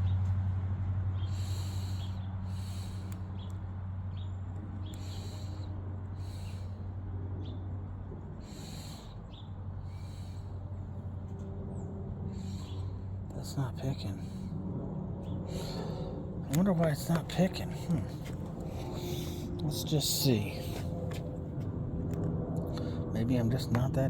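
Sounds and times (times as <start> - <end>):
steady low hum: 0.0 - 24.0
person breathing: 1.1 - 21.6, 22.6 - 23.1.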